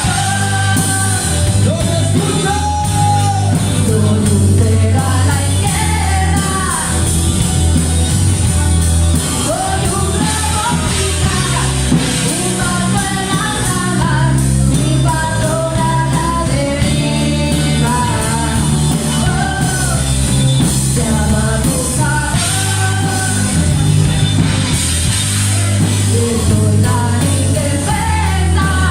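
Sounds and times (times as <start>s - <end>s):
rock song with vocals: 0.0s - 28.9s.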